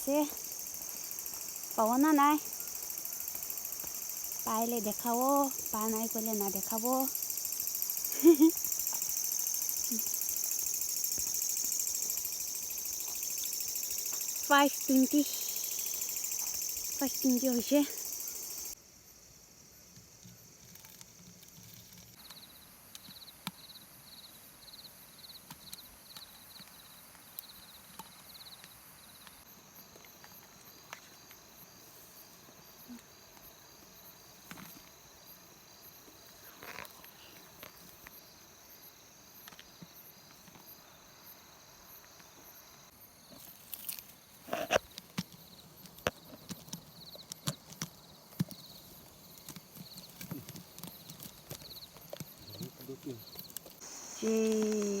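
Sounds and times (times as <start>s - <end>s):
insects buzzing and chirping: 0.0s - 55.0s.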